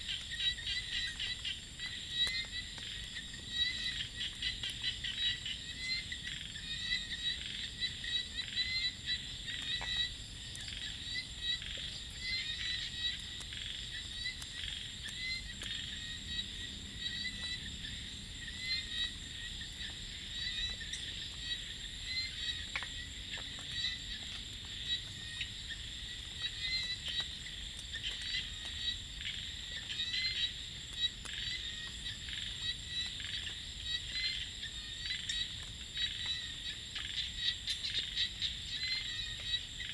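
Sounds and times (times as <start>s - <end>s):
cicadas droning: 0.0s - 39.9s
frogs chirping: 0.0s - 39.9s.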